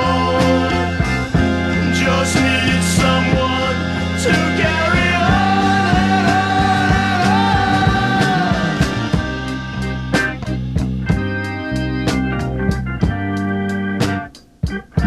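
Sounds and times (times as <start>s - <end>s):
bending lead melody: 0.0s - 15.0s
rock ballad band playing: 0.0s - 15.0s
steady drum beat: 0.0s - 15.0s.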